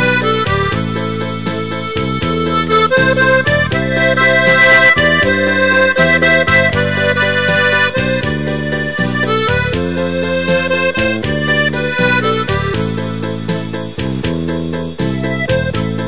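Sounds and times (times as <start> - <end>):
accordion tune: 0.0 - 16.0.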